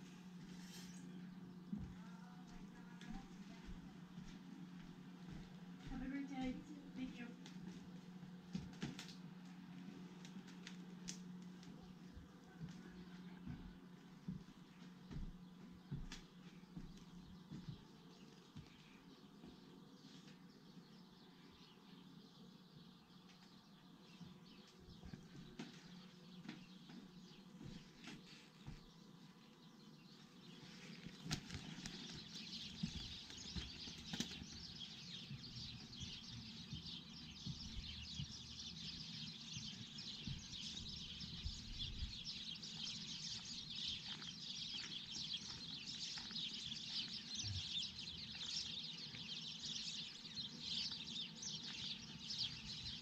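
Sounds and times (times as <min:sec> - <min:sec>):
small birds chirping chorus: 0:00.0 - 0:53.0.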